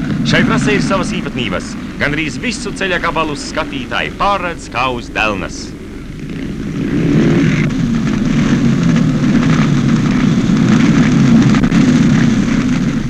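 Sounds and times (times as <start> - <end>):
motocross motorcycle engines: 0.0 - 13.0.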